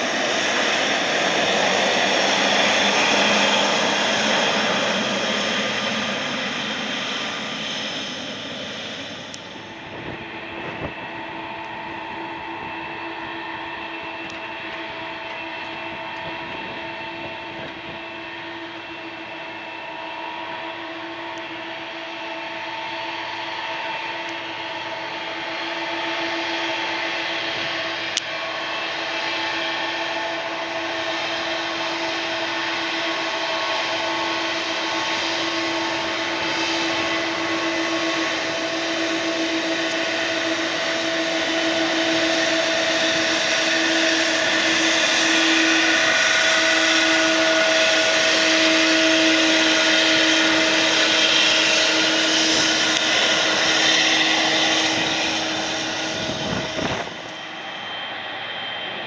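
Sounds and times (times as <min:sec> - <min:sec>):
jet engine drone: 0:00.0 - 0:59.0.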